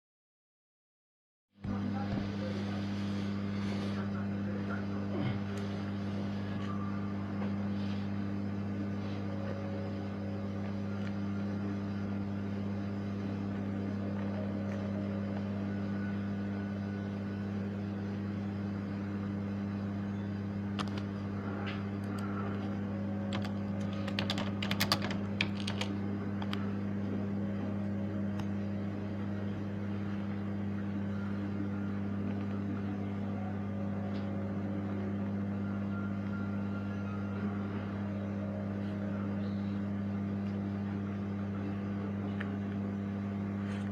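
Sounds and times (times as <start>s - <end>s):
low electrical hum: 1.6s - 43.9s.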